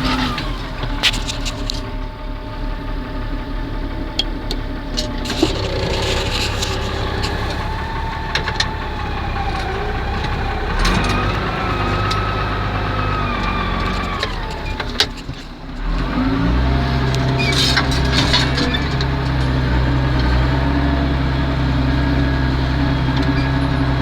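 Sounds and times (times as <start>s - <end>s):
diesel tractor engine: 0.0s - 24.0s.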